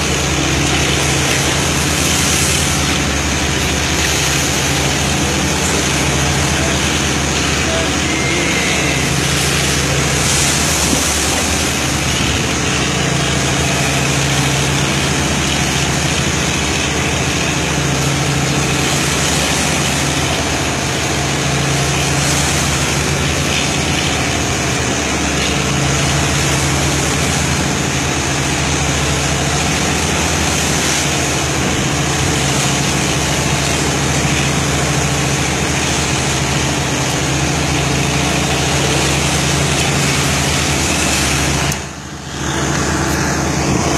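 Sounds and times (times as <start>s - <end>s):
boat engine humming: 0.0s - 43.9s
continuous rushing noise: 0.0s - 43.9s.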